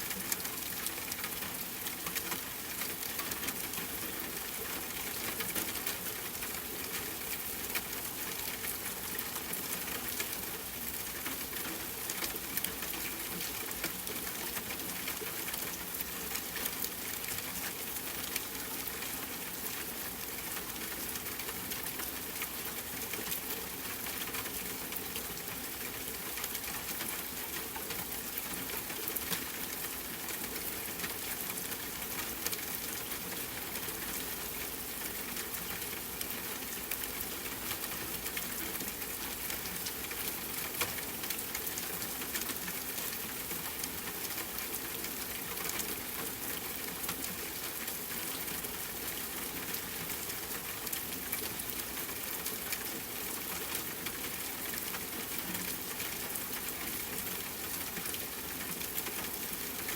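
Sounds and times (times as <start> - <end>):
rain on a tent: 0.0 - 59.9.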